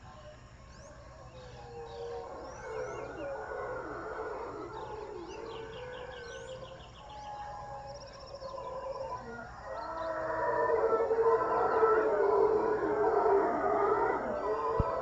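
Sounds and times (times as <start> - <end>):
birds chirping and trilling: 0.0 - 15.0
howler monkeys howling: 0.0 - 15.0.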